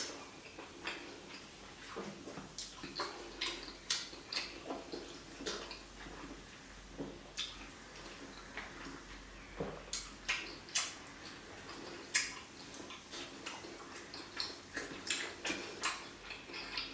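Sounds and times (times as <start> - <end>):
person chewing and lip smacking: 0.0 - 6.4, 7.1 - 16.9.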